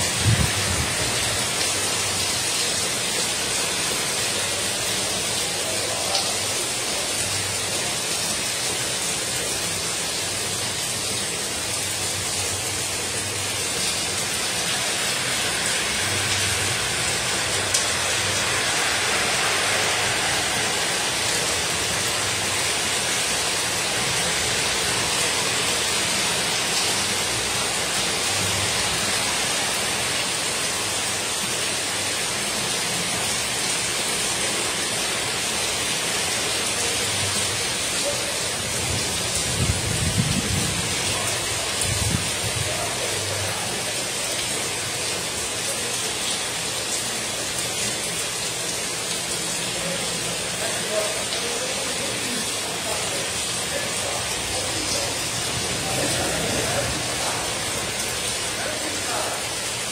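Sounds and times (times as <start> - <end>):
heavy rain falling: 0.0 - 59.9
water streaming off metal roof: 0.0 - 59.9.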